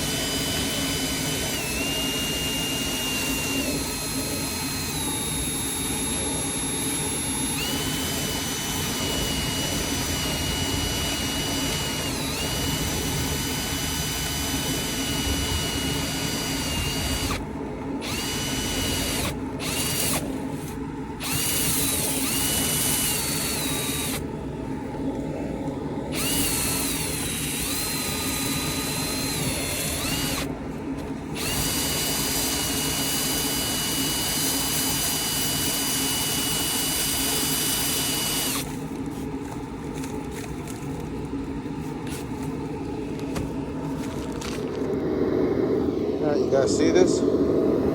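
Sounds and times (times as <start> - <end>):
power drill motor whining: 0.0 - 24.3, 25.1 - 40.8.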